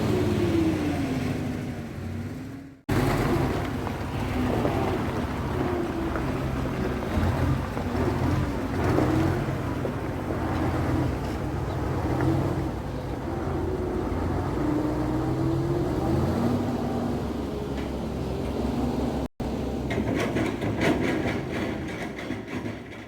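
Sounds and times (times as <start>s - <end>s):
lorry engine running: 0.0s - 22.8s.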